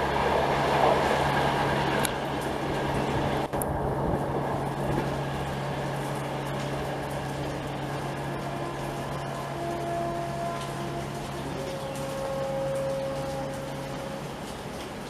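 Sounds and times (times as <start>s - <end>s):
rain hissing: 0.0s - 15.0s
train rumbling: 0.0s - 15.0s.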